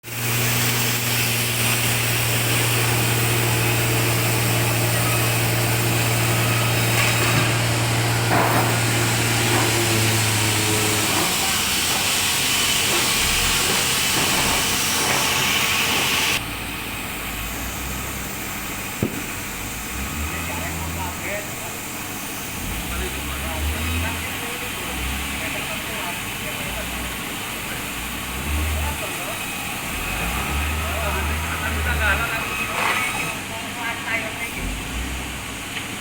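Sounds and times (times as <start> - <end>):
saw cutting wood: 0.0 - 16.4, 17.3 - 33.6
machine drone: 0.1 - 33.4.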